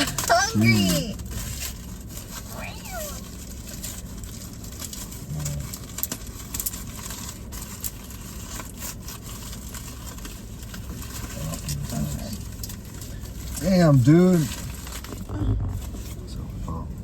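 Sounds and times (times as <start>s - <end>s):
paper wrappers rustling and tearing: 0.0s - 16.8s
car engine idling: 0.0s - 17.0s.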